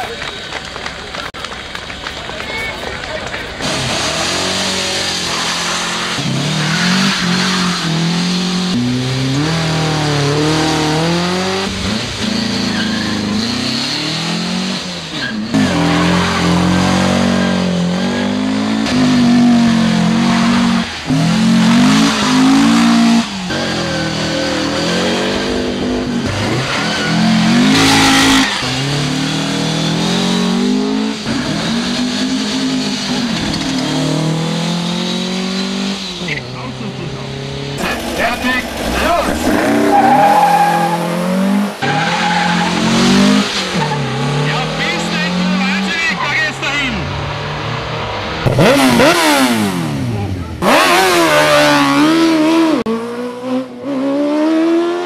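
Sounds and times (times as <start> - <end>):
drag race cars accelerating: 0.0 - 55.0.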